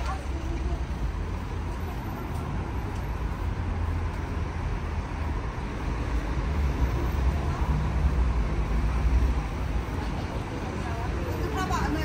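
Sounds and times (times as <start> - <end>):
low rumble of car traffic: 0.0 - 12.0.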